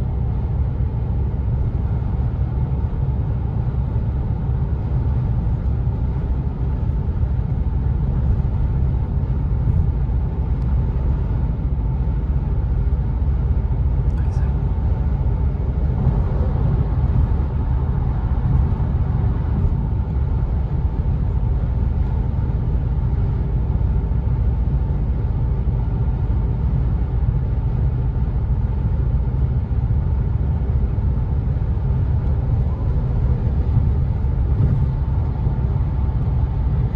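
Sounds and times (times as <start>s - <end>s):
car running gear rumble: 0.0s - 36.9s
faint steady whine: 0.0s - 36.9s.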